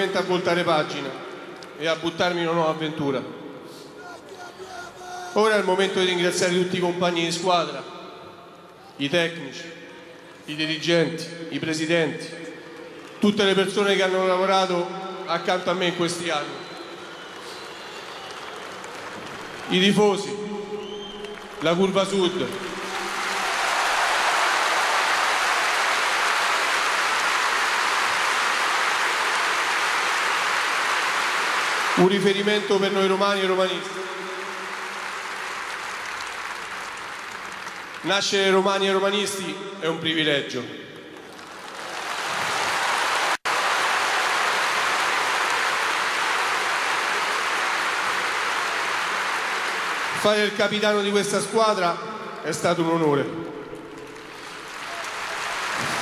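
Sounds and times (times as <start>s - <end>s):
stadium crowd applauding and cheering: 0.0s - 56.0s.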